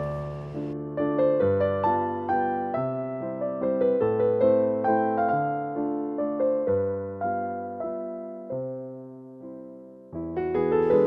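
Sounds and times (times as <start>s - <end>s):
gentle piano piece: 0.0s - 11.0s.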